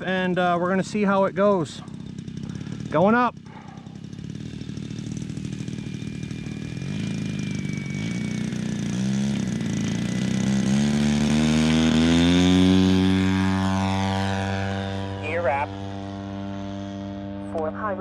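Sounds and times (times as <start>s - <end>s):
model airplane engine at full power: 0.0s - 18.0s.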